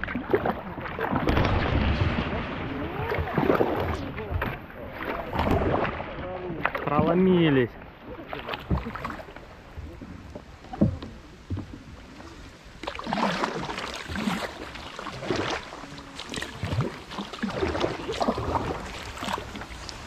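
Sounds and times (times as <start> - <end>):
paddle strokes swishing through water: 0.0 - 20.0.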